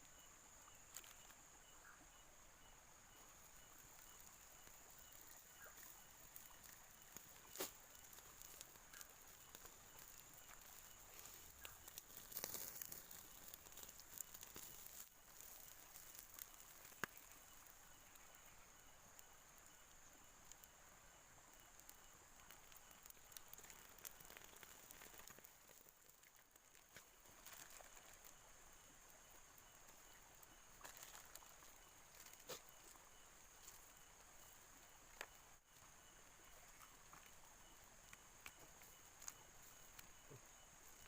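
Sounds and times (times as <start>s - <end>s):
soft crackles: 0.0s - 41.0s.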